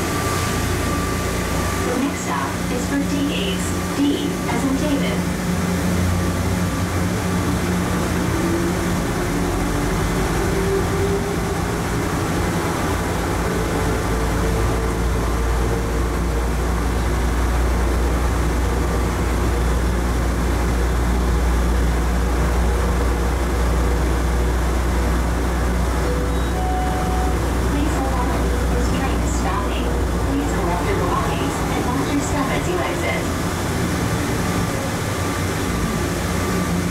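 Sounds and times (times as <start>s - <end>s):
low running rumble: 0.0s - 36.9s.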